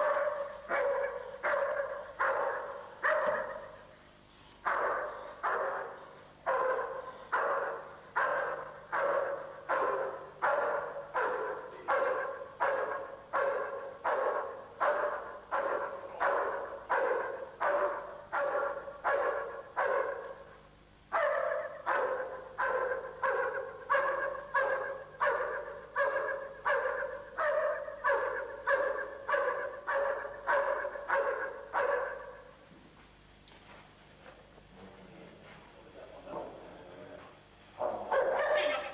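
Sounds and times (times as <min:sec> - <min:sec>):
dog barking: 0:00.0 - 0:03.9, 0:04.6 - 0:32.6, 0:37.8 - 0:38.9.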